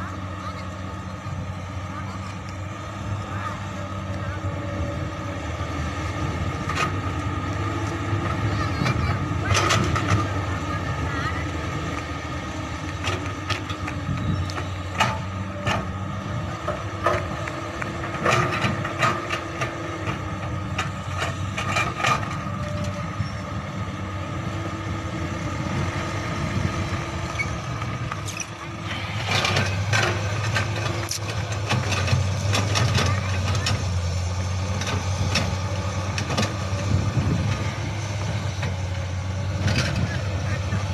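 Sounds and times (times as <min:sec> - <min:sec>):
excavator diesel engine running: 0:00.0 - 0:40.9
truck engine: 0:00.0 - 0:40.9.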